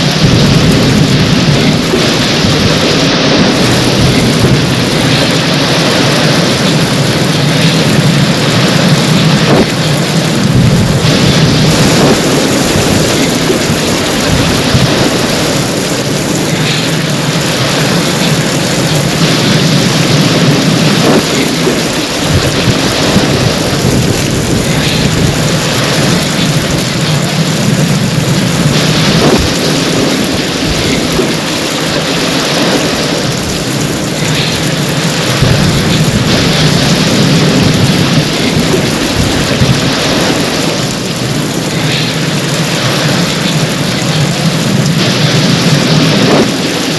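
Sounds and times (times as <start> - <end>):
heavy rain pouring: 0.0 - 46.9
low rumble: 0.0 - 46.9.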